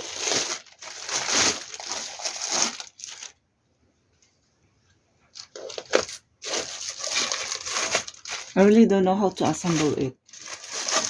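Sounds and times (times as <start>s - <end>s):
plastic packaging crinkling: 0.0s - 3.4s, 5.3s - 11.0s.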